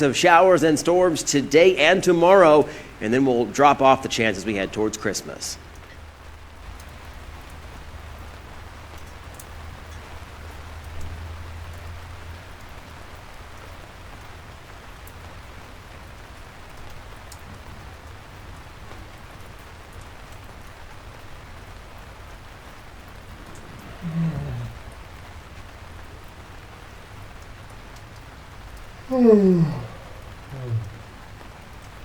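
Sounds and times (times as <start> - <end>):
rain drop ticks: 0.0 - 32.0
steady rain hiss: 0.0 - 32.0.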